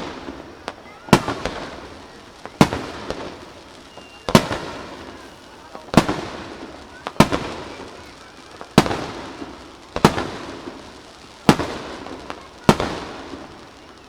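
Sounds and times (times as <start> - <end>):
firework shells bursting: 0.0 - 14.0
small firework pops: 0.0 - 14.0.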